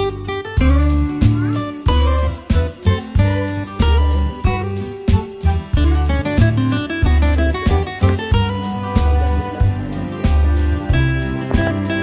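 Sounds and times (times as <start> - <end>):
guitar-led music with beat: 0.0 - 12.0.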